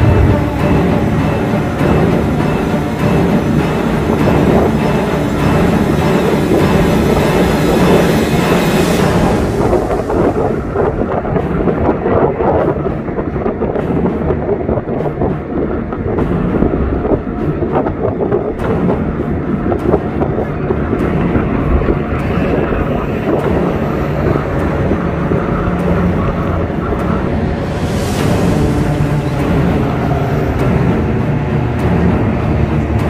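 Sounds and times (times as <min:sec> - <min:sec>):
racing boat engines rumbling: 0:00.0 - 0:33.0.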